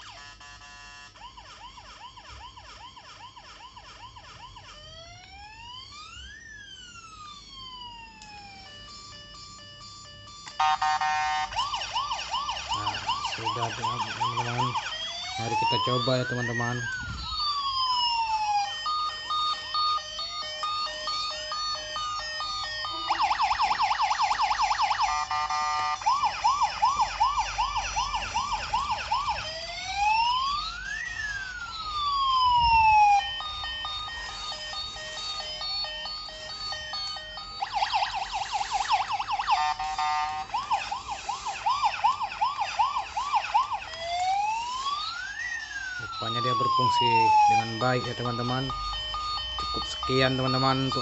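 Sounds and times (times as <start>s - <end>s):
toy siren electronic wailing: 0.0s - 51.0s.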